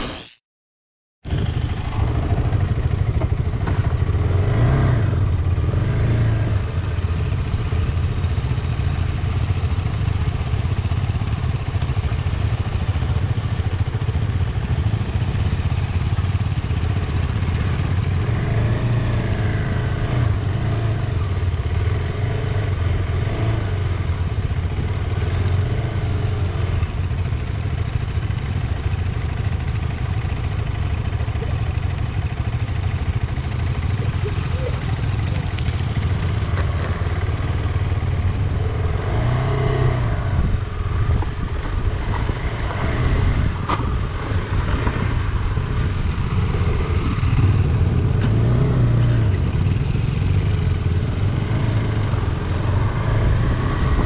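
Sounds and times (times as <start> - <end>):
motorcycle engine running: 1.3 - 54.0.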